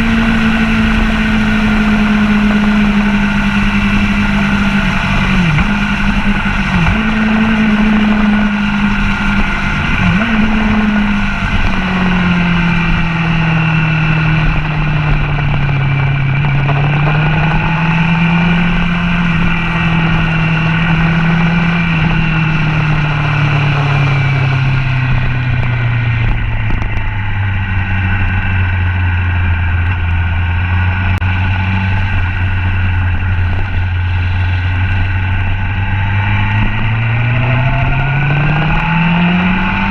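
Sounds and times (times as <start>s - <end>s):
motorcycle engine running hard: 0.0s - 39.9s
wind rushing over microphone: 0.0s - 39.9s.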